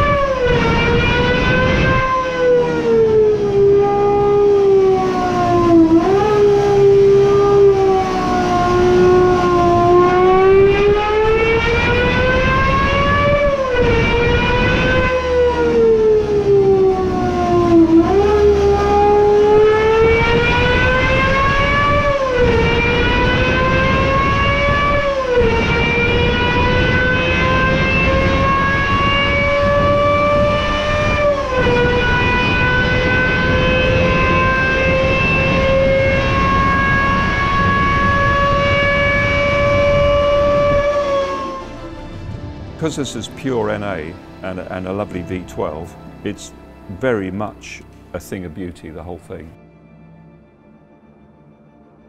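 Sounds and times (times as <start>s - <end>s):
high-revving engine: 0.0s - 46.8s.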